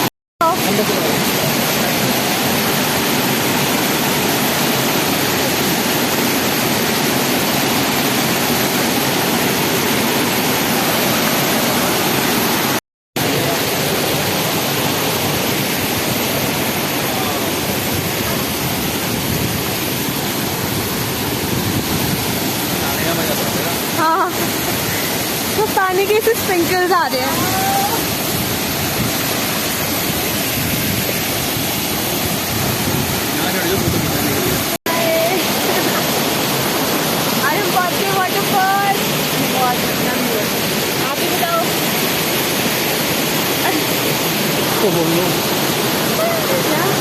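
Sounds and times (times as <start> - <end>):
waterfall crashing: 0.0 - 47.0.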